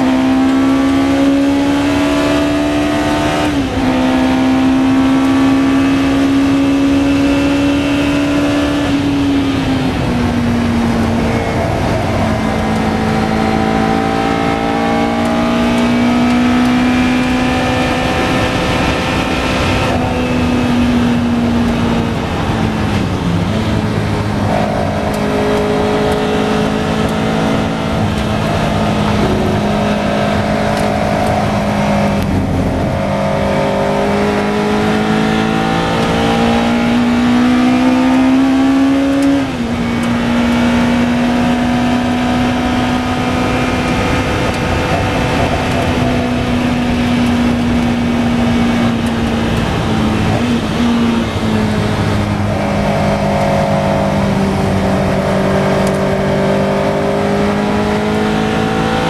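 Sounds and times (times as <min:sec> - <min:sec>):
racing car engine: 0:00.0 - 0:59.0
wind noise: 0:00.0 - 0:59.0.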